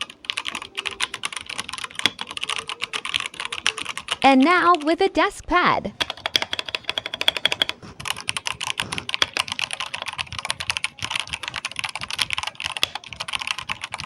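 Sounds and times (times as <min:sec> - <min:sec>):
mechanical keyboard typing: 0:00.0 - 0:05.1, 0:05.9 - 0:14.0.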